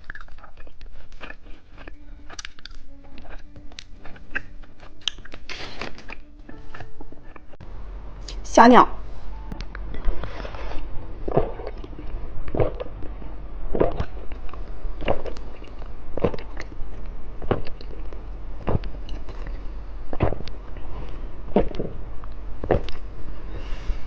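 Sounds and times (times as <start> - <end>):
person chewing candy: 0.0 - 7.6, 10.0 - 23.1.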